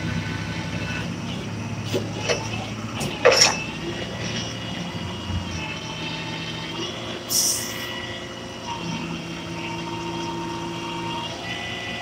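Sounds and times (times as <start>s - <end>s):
tow truck engine droning: 0.0s - 12.0s.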